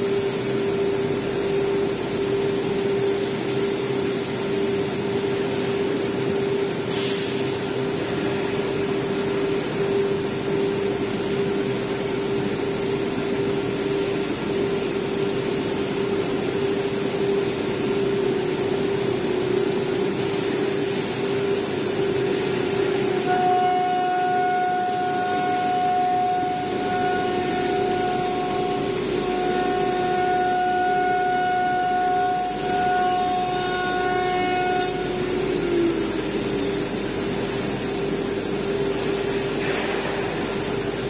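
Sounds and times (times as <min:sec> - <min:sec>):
machine spindle humming: 0:07.6 - 0:41.0.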